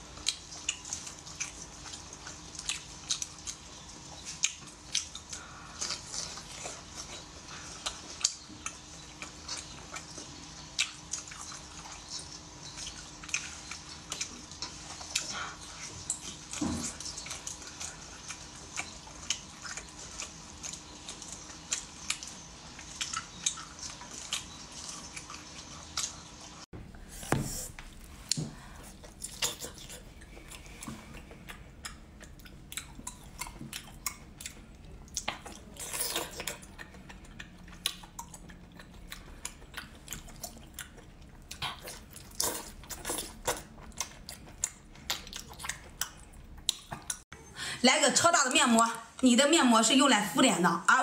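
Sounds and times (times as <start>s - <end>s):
faint steady hum: 0.0s - 51.0s
wet chewing and mouth smacks: 0.2s - 26.5s, 27.8s - 47.4s.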